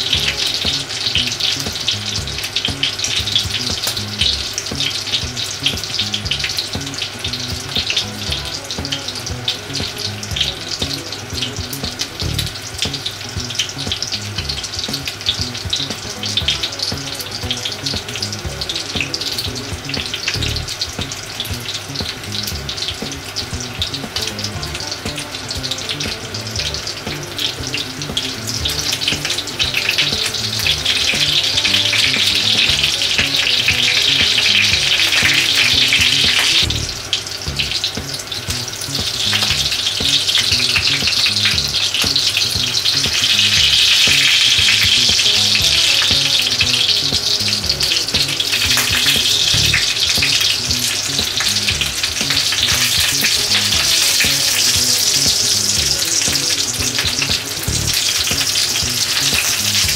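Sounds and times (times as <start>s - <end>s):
cutlets sizzling in oil: 0.0s - 59.9s.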